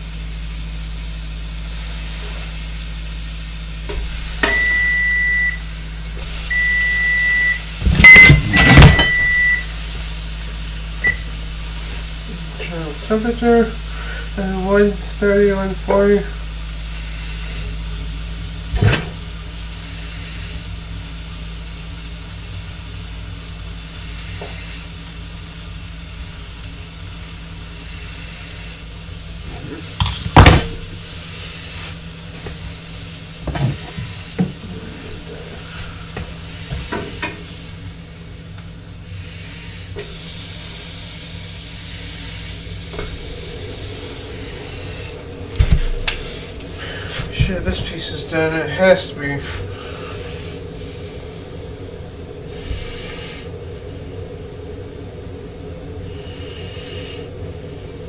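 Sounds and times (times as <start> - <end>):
steaks sizzling in a pan: 0.0 - 53.4.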